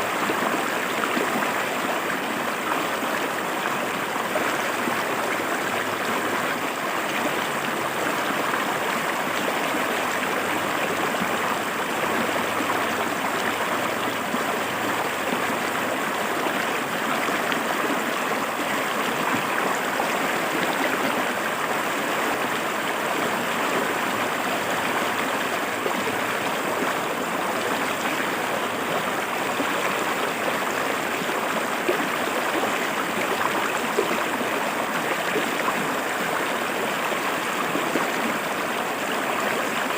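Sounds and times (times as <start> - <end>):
river water over rocks: 0.0 - 39.9.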